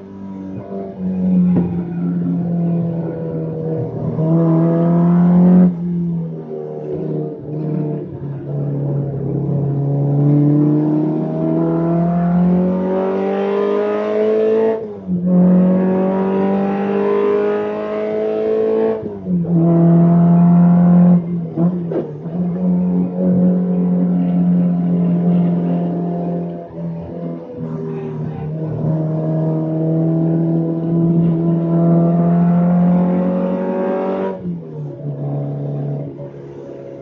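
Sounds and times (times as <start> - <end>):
racing car engine revving: 0.0 - 37.0.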